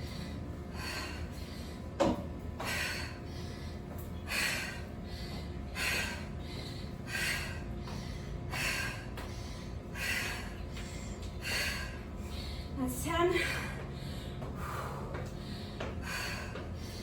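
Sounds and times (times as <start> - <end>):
woman breathing hard: 0.0 - 17.0.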